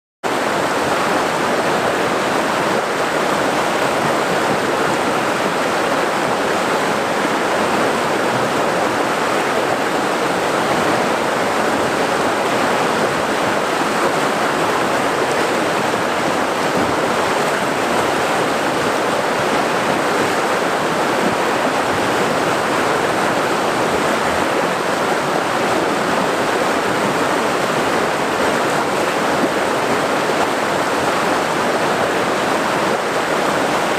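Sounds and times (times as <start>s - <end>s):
flowing water rushing: 0.2s - 33.9s.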